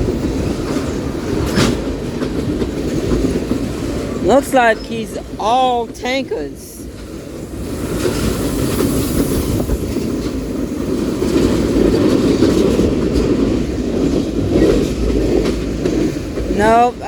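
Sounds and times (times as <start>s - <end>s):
wheels clacking over rail joints: 0.0s - 6.2s, 6.8s - 17.0s
train wheels rumbling on rails: 0.0s - 17.0s.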